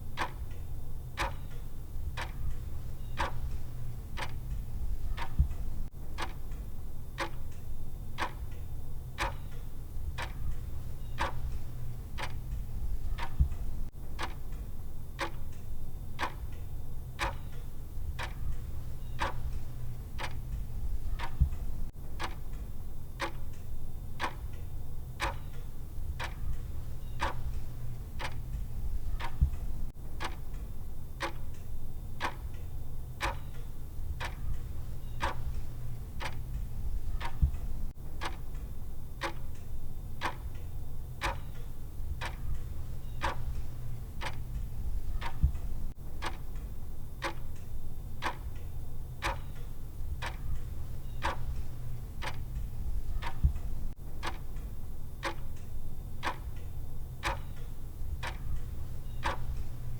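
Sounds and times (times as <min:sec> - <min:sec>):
clock ticking: 0:00.0 - 0:16.6, 0:17.2 - 0:59.9.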